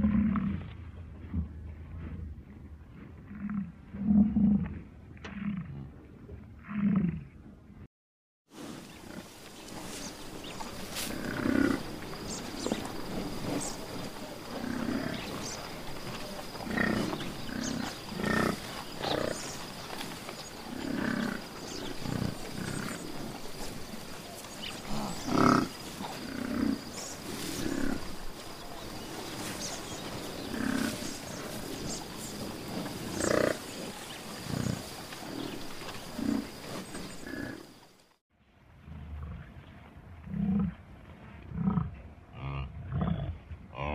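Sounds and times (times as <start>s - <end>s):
buffalo grunting and growling: 0.0s - 7.5s, 8.8s - 37.7s, 38.8s - 40.8s, 41.4s - 43.9s.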